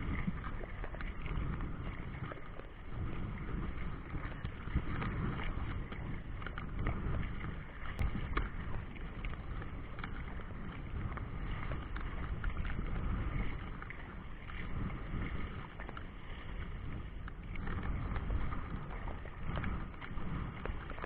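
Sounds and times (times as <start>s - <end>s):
choppy river water: 0.0s - 21.0s
wind: 0.0s - 21.0s.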